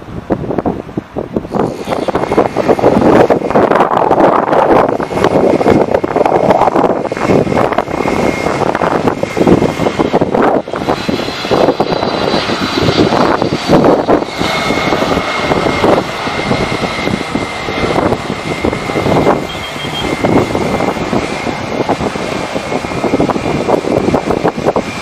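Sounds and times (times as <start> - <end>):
airliner engines passing: 0.0 - 25.0
high engine whine: 0.0 - 25.0.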